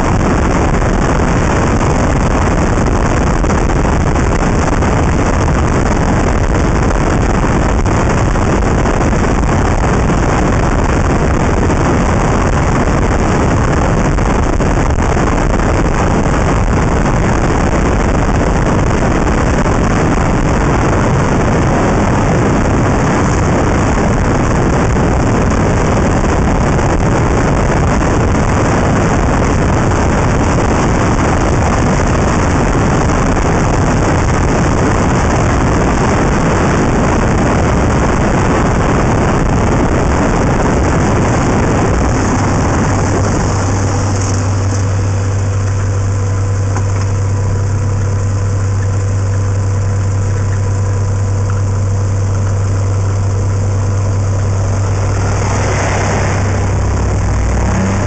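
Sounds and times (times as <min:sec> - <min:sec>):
road noise: 0:00.0 - 0:58.0
wind rushing on microphone: 0:00.0 - 0:58.0.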